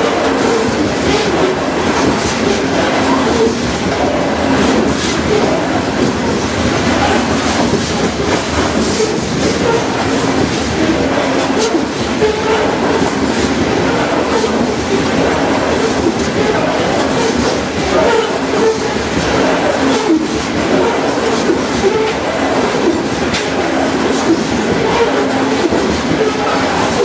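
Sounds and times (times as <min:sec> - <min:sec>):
sharp clacks of wheels: 0:00.0 - 0:27.0
train wheels rolling on rails: 0:00.0 - 0:27.0.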